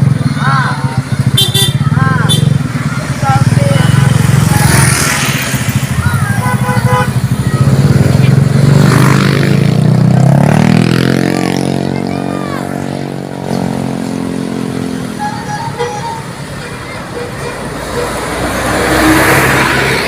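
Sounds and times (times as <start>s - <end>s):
diesel bus engine running: 0.0s - 10.4s, 11.4s - 20.0s.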